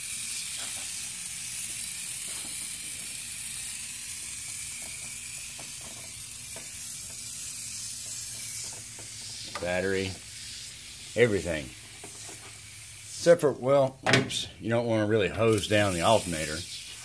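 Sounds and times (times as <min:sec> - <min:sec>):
aerosol can spraying hiss: 0:00.0 - 0:14.0, 0:15.4 - 0:17.0.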